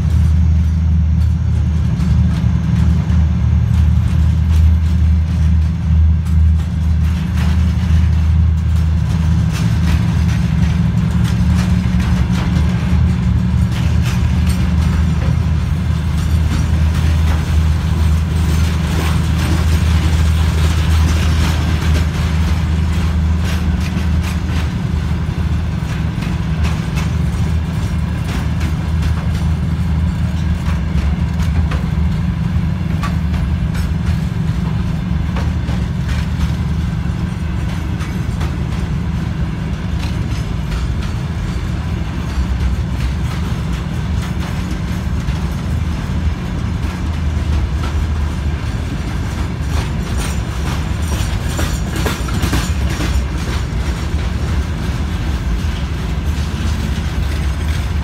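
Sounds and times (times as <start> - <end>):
freight train rumbling past: 0.0 - 58.0
train wheels clicking and knocking: 0.0 - 58.0.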